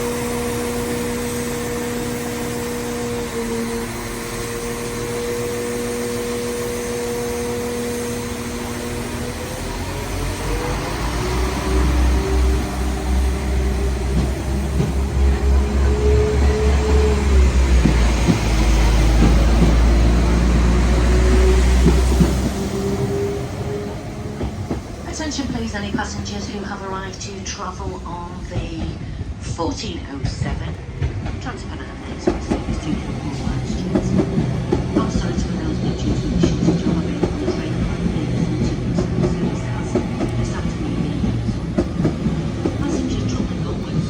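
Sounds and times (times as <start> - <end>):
train engine humming: 0.0 - 44.0.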